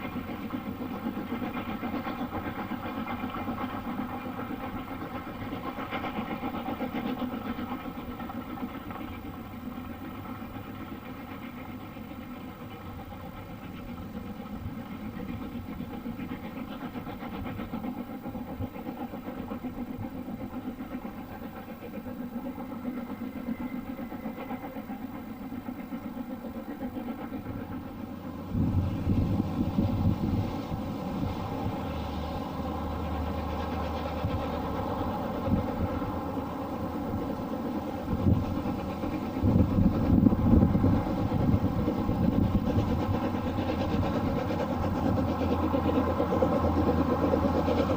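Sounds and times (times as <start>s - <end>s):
train engine running: 0.0s - 47.9s.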